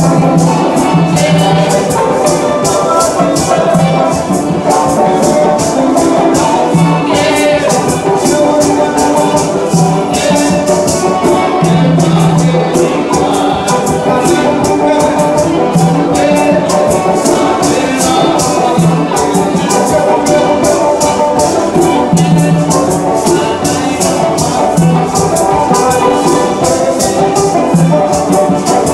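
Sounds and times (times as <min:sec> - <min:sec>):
held instrumental notes: 0:00.0 - 0:28.9
shaker rhythm: 0:00.0 - 0:28.9.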